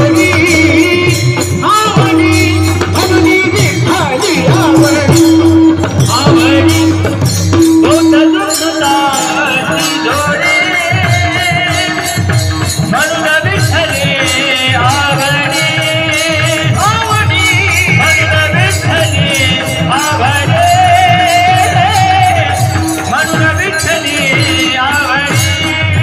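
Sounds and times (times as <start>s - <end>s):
drum strokes: 0.0s - 26.0s
man singing devotional melody: 0.0s - 26.0s.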